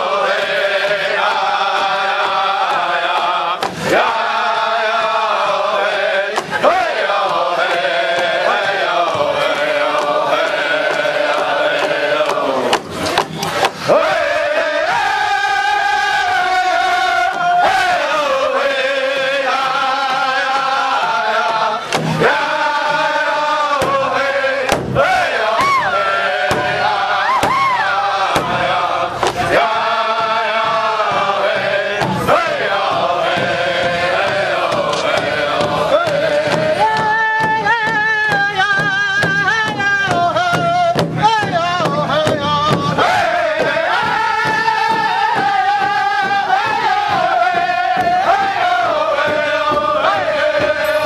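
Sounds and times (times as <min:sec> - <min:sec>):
men singing in chorus: 0:00.0 - 0:13.0, 0:13.7 - 0:51.0
large hide drum strikes: 0:00.3 - 0:51.0.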